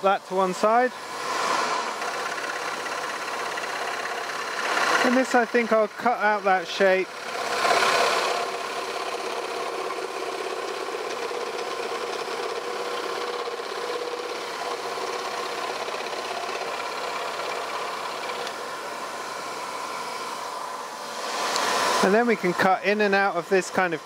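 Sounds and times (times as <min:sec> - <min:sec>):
scroll saw cutting wood: 0:00.0 - 0:24.0.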